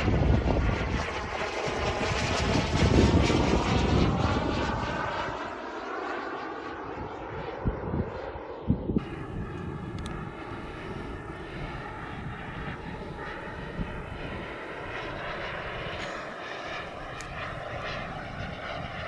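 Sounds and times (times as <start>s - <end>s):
model jet engine rushing: 0.0s - 19.0s.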